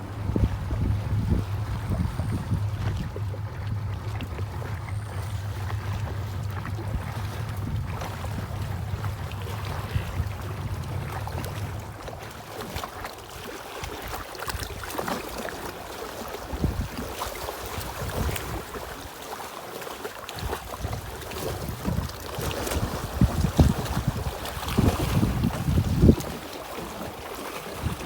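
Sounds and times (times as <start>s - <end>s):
wind buffeting microphone: 0.0s - 15.2s, 16.4s - 19.1s, 20.4s - 28.0s
water splashing and lapping: 0.0s - 28.0s.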